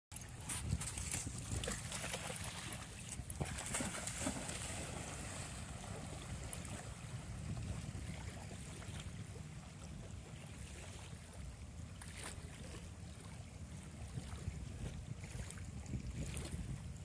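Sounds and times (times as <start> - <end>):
water lapping at shore: 0.1 - 17.0
wind rumbling on microphone: 0.1 - 17.0
faint splashes: 0.2 - 16.6.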